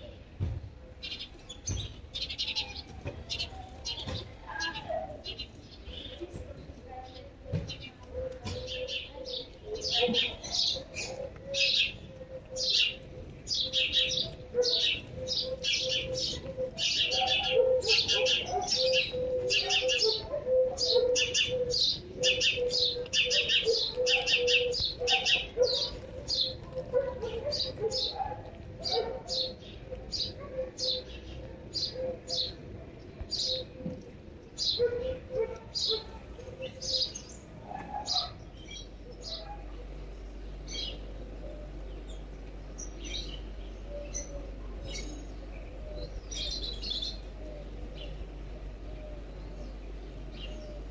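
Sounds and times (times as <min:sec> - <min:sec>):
small songbirds chirping: 0:00.0 - 0:50.9
low steady hum: 0:05.1 - 0:50.9.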